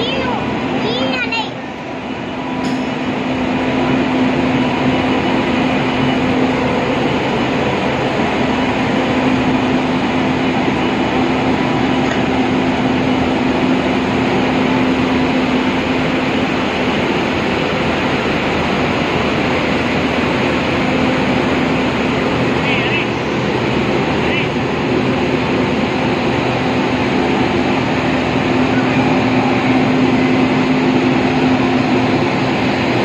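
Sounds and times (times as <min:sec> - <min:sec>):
electric locomotive humming: 0:00.0 - 0:33.0.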